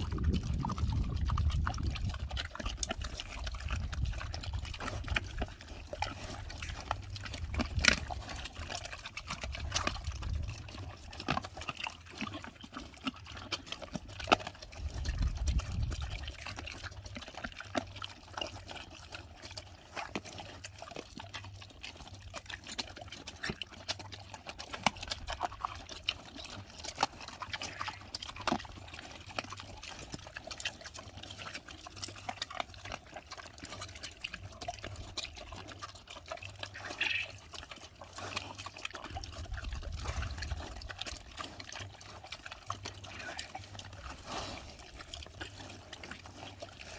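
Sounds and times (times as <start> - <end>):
pigs chewing: 0.0 - 46.9.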